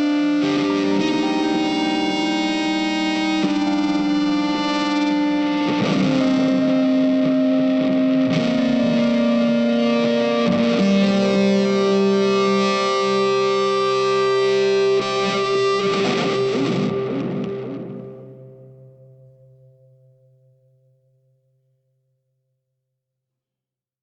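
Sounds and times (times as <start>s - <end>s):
distorted electric guitar chords: 0.0s - 20.5s.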